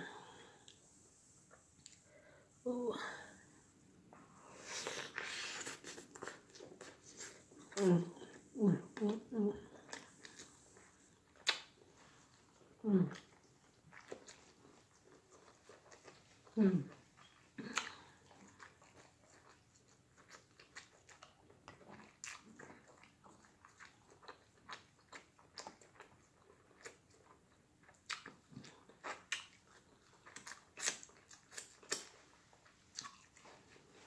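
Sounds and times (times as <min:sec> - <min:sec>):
person chewing: 0:04.3 - 0:34.0.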